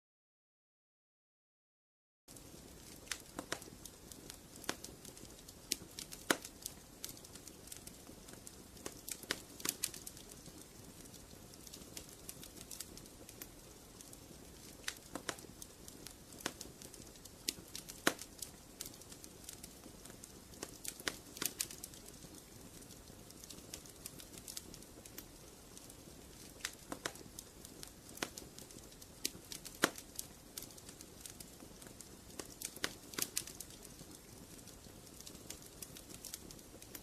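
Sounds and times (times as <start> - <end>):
wood fire crackling: 2.3 - 37.0.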